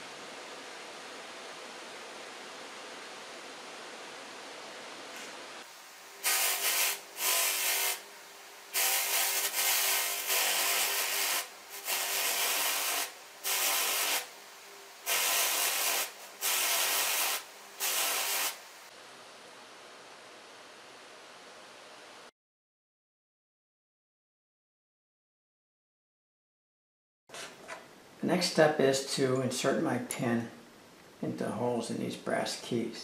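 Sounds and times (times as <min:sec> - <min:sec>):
steady hiss: 0:00.0 - 0:22.3, 0:27.4 - 0:33.0.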